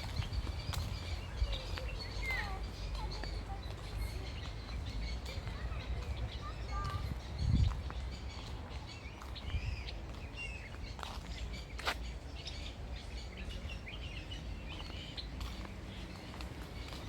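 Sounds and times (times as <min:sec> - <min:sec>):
birds chirping and warbling: 0:00.0 - 0:17.0.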